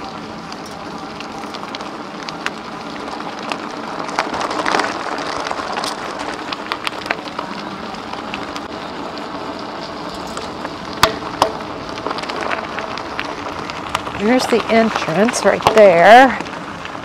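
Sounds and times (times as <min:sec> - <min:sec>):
bicycle tyres crunching on gravel: 0:00.0 - 0:17.0.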